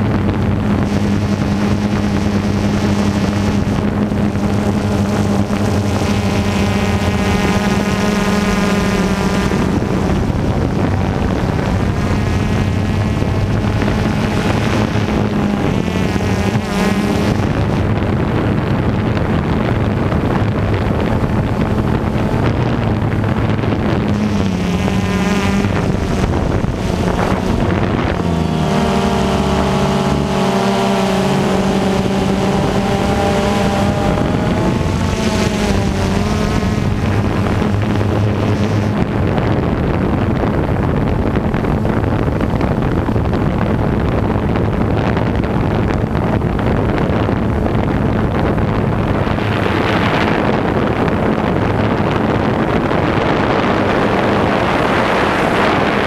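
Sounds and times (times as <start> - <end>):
drone propellers buzzing: 0.0 - 56.0
wind noise on microphone: 0.0 - 56.0.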